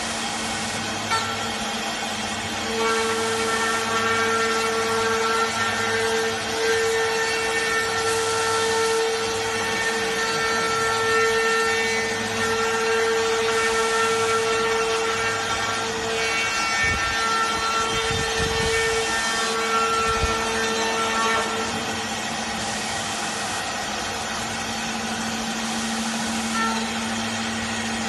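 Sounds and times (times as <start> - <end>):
router spindle whine: 0.0 - 28.0.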